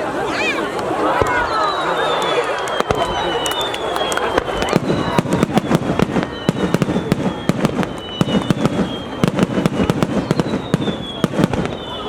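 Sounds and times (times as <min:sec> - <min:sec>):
fireworks bangs and crackles: 0:00.0 - 0:12.0
faint falling whistle: 0:01.3 - 0:12.0.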